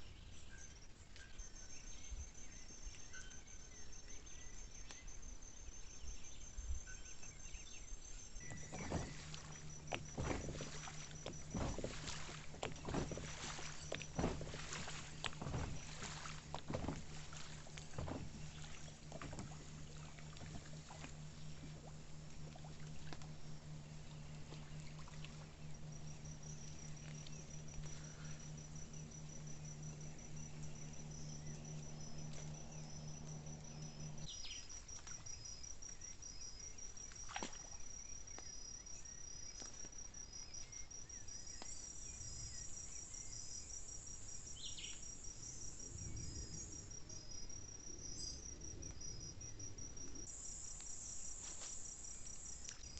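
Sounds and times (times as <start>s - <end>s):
steady low hum: 0.0s - 39.6s, 40.2s - 52.9s
crickets trilling: 0.0s - 52.9s
insect chirping in pulses: 0.0s - 52.9s.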